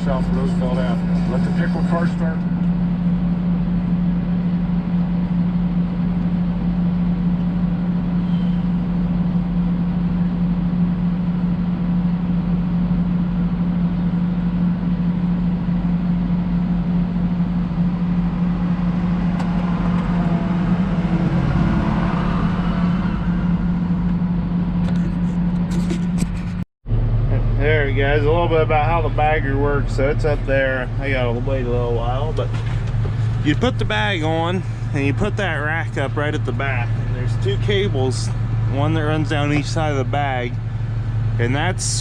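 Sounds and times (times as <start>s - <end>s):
tractor engine droning: 0.0s - 42.0s.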